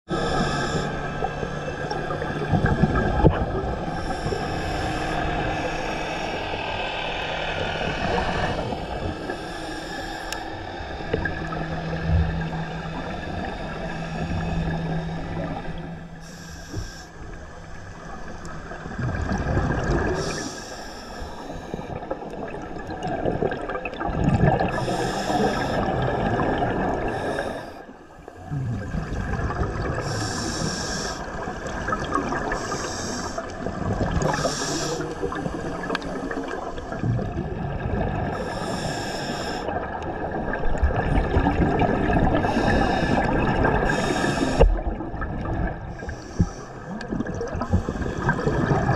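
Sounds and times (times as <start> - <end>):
steady droning tones: 0.1 - 48.9
underwater exhaled bubbles rushing: 0.1 - 48.9.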